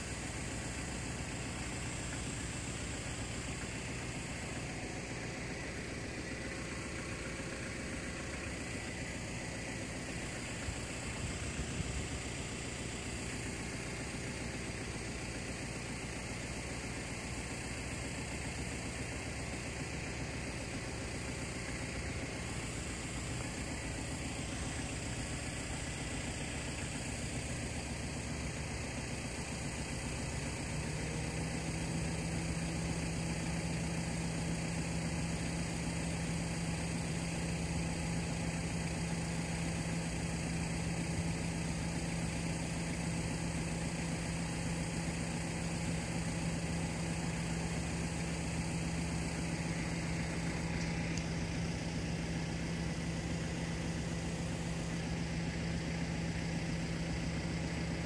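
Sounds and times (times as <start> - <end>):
low engine hum: 0.0 - 58.0
outdoor noise hiss: 0.0 - 58.0.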